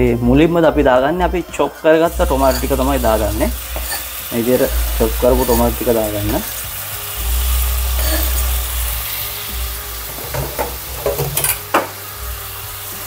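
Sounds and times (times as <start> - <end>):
vegetables sizzling in oil: 1.8 - 13.0.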